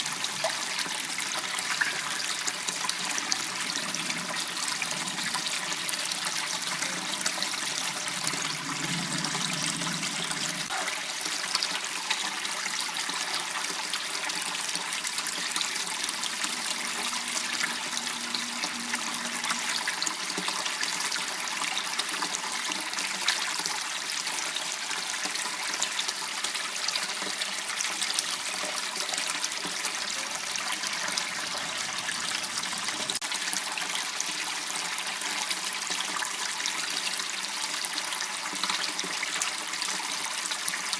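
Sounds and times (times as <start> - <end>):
water flowing in a waterway: 0.0 - 40.9.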